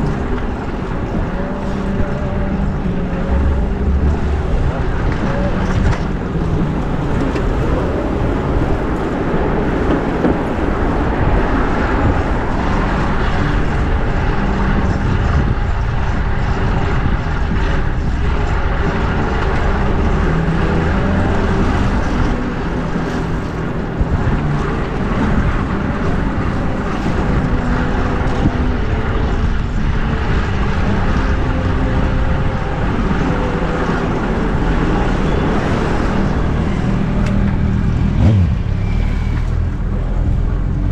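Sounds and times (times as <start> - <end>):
motor traffic drone: 0.0 - 40.9
wind on microphone: 0.0 - 40.9.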